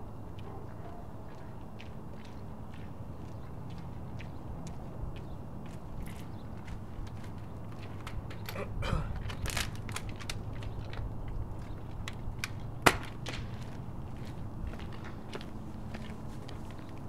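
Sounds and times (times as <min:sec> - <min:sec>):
footsteps on asphalt: 0:00.2 - 0:08.4, 0:09.1 - 0:17.0.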